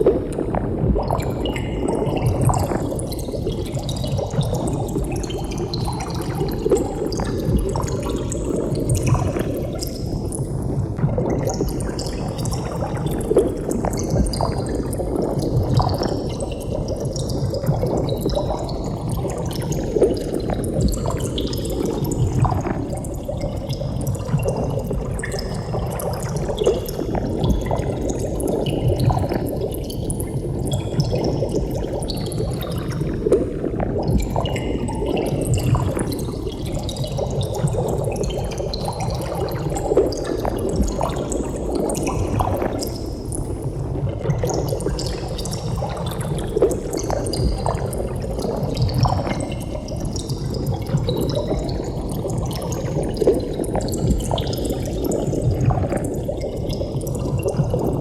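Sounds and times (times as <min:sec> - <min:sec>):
water bubbling: 0:00.0 - 0:58.0.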